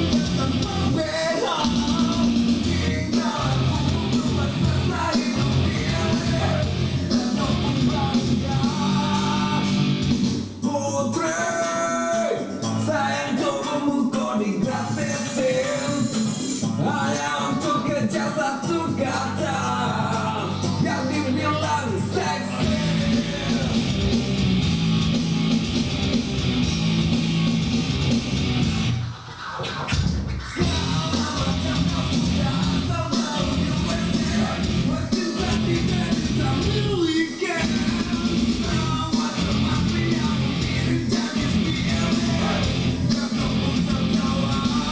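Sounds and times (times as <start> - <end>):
rock song with singer and guitar: 0.0 - 44.9.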